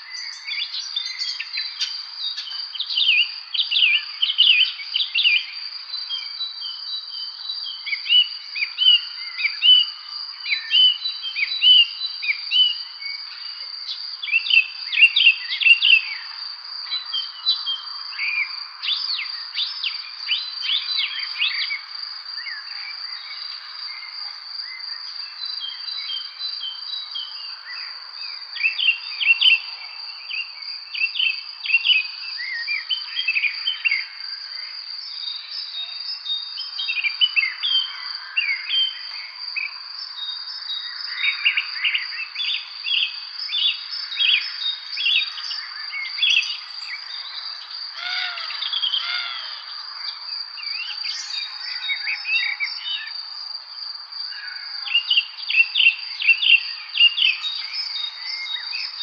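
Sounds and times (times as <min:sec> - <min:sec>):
songbirds chirping and singing: 0:00.0 - 0:59.0
high-pitched insect trill: 0:00.1 - 0:59.0.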